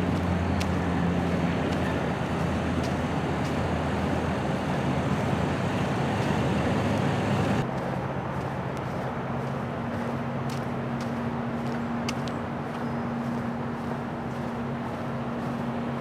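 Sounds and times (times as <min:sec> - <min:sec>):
low engine hum: 0:00.0 - 0:16.0
road traffic noise: 0:00.0 - 0:16.0.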